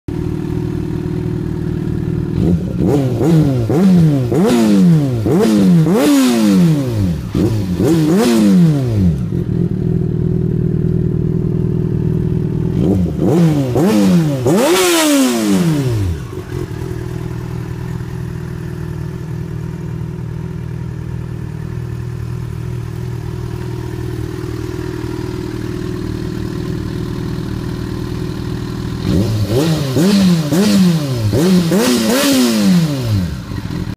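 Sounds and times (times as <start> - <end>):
motorcycle engine idling: 0.1 - 33.9
motorcycle throttle blips: 0.1 - 33.9.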